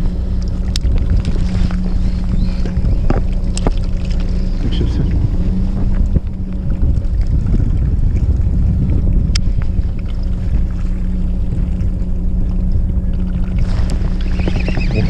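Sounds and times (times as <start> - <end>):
boat engine droning: 0.0 - 15.0
wind buffeting microphone: 0.0 - 15.0.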